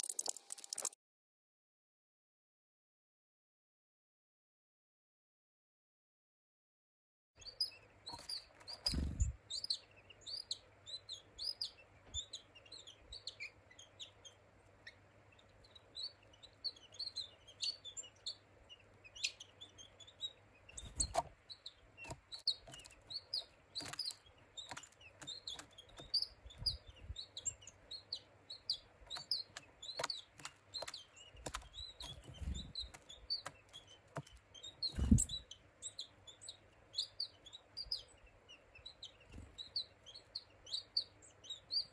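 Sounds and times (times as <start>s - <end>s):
high bird-like chirps: 7.4s - 41.9s.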